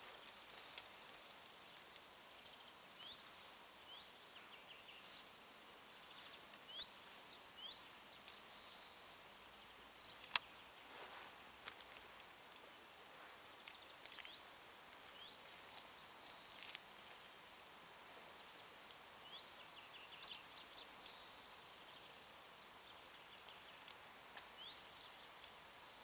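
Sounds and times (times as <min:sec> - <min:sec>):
small birds chirping: 0:00.0 - 0:26.0
soft hiss: 0:00.0 - 0:26.0.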